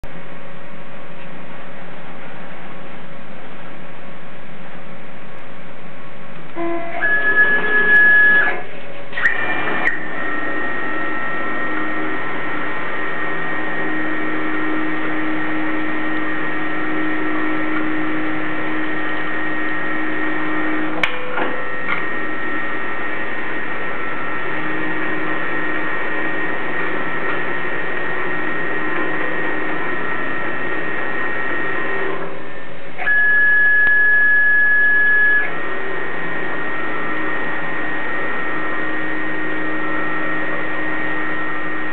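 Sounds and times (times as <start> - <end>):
louder higher whine: 5.4 - 41.9
milling machine mechanical whine: 6.5 - 41.9.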